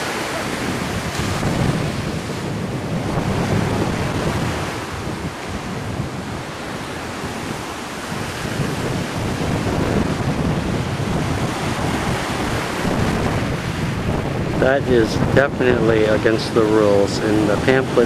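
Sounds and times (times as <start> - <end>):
surf on pebble beach: 0.0 - 18.0
wind buffeting microphone: 0.0 - 18.0.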